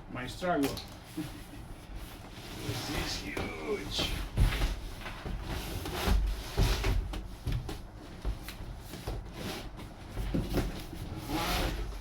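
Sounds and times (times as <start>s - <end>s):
cardboard rustling and scraping: 1.1s - 12.0s.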